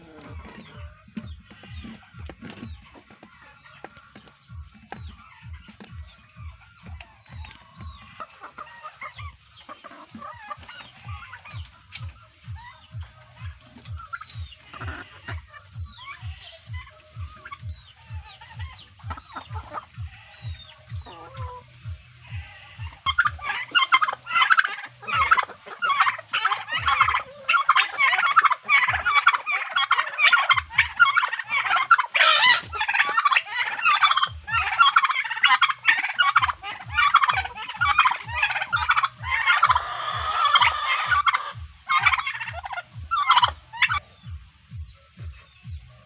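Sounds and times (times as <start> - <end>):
high animal calls: 5.1 - 44.1.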